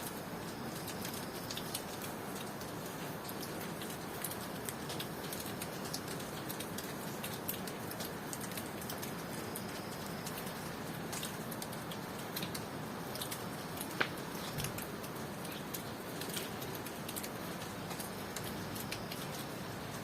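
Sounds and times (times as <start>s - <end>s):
raindrops dripping on surfaces: 0.0s - 20.0s
steady rain falling: 0.0s - 20.0s.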